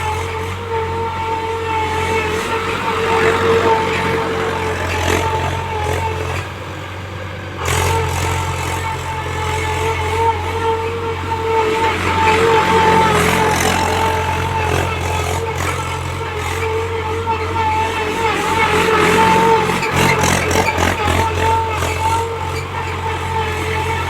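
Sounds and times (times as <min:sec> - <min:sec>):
tractor engine with high whine: 0:00.0 - 0:24.0.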